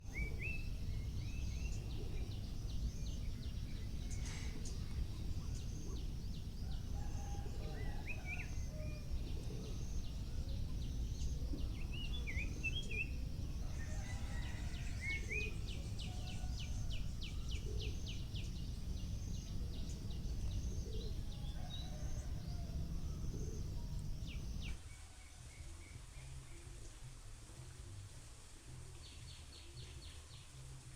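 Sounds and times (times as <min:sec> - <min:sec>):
birds chirping and calling: 0:00.0 - 0:24.8
low outdoor rumble: 0:00.0 - 0:24.9.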